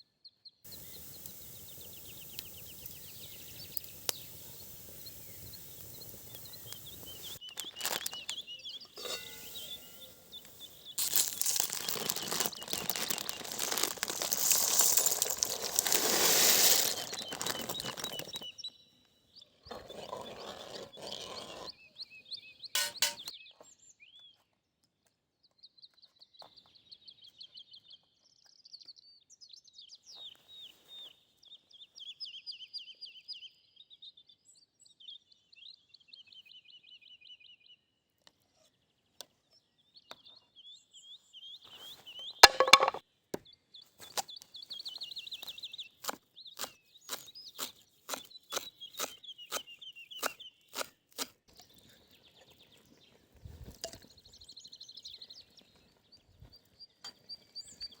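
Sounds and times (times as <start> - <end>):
songbirds singing: 0.0 - 24.6, 25.4 - 58.0.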